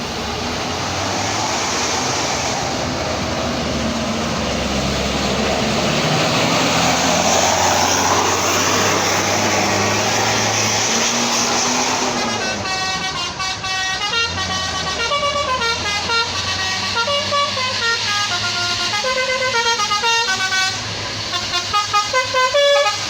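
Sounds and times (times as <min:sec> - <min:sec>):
bus engine under full throttle: 0:00.0 - 0:23.0.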